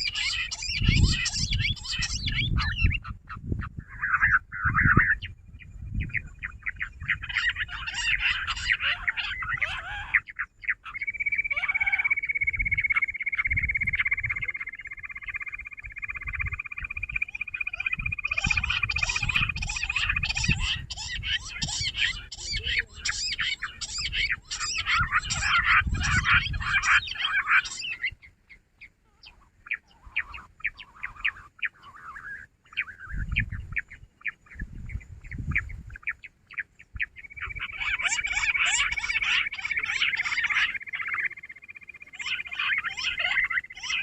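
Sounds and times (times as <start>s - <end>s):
quail chirping chorus: 0.0s - 44.0s.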